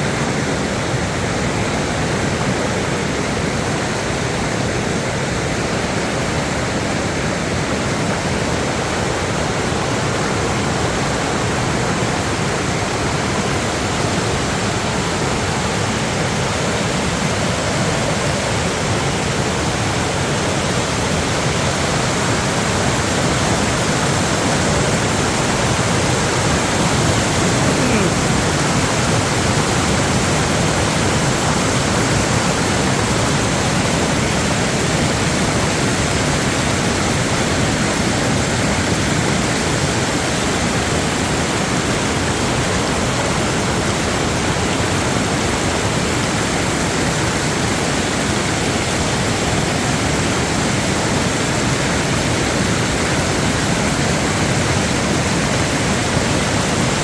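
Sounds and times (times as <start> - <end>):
fast-moving water rushing: 0.0 - 57.0.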